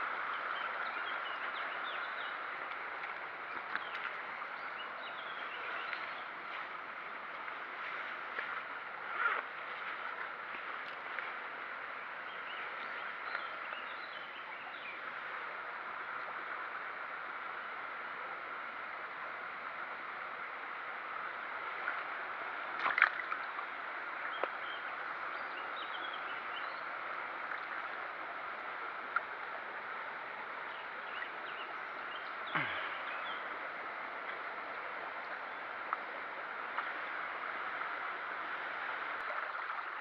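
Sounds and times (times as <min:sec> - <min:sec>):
running water: 0:00.0 - 0:40.0.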